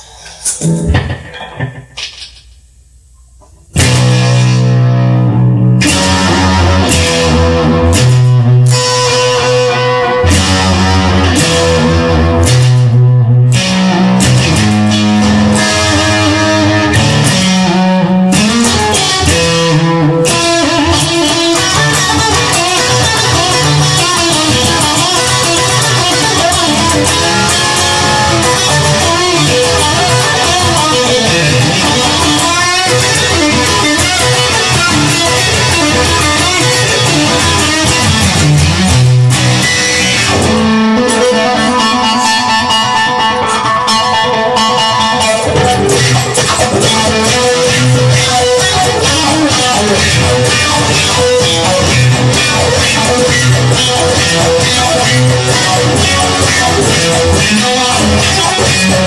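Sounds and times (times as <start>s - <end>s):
electric guitar playing: 0.0s - 2.1s, 3.4s - 59.0s.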